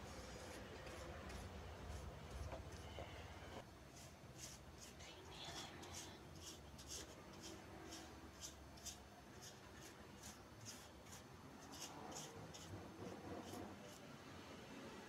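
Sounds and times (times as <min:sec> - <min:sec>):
paintbrush swishing on wood: 0:00.0 - 0:03.2, 0:03.9 - 0:05.0, 0:05.8 - 0:14.0.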